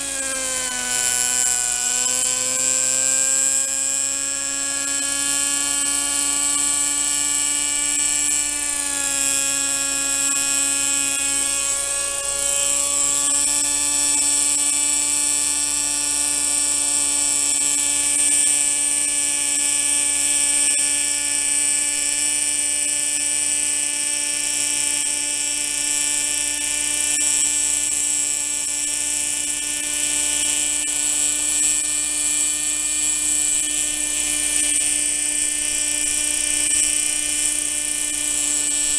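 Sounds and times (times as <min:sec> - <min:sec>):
model helicopter engine droning: 0:00.0 - 0:38.9.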